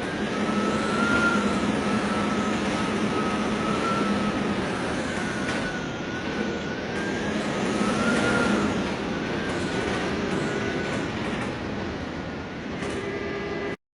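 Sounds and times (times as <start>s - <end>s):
wavering wind whistle: 0.0s - 11.2s.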